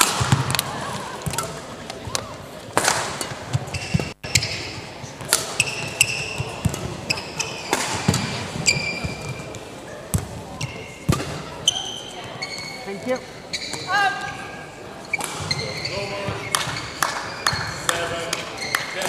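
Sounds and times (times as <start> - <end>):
sneakers squeaking on court floor: 3.1 - 19.0.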